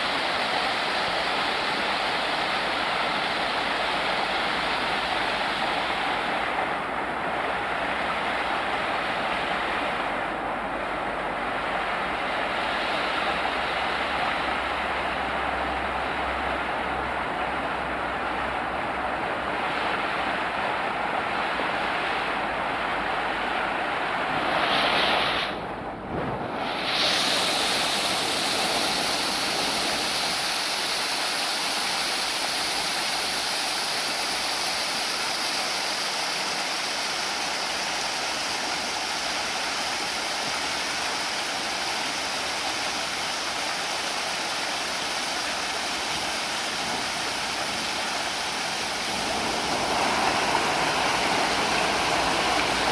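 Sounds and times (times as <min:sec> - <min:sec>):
stream rushing over rocks: 0:00.0 - 0:52.9.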